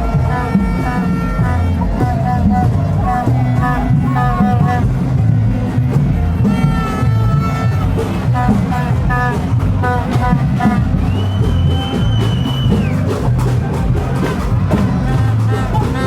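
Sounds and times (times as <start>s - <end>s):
people singing: 0.0s - 16.0s
street band drumming: 0.0s - 16.0s.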